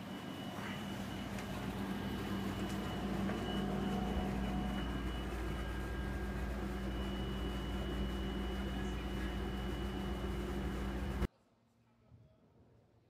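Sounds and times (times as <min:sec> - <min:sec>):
low machine hum: 0:00.0 - 0:11.3.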